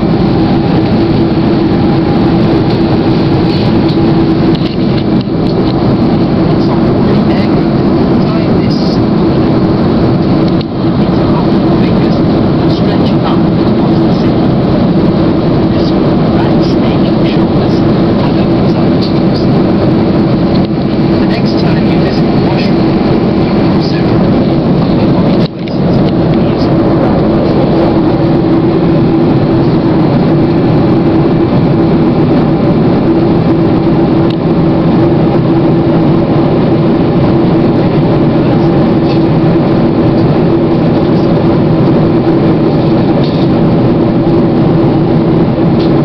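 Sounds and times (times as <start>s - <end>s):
constant low hum: 0.0s - 46.0s
jet engines and airflow rushing: 0.0s - 46.0s.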